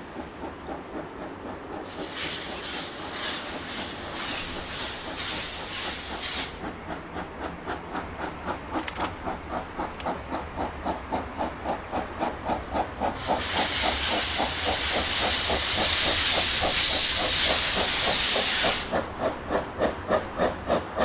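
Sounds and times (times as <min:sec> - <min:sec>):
steam locomotive chuffing: 0:00.0 - 0:21.0
steam venting hiss: 0:00.0 - 0:21.0.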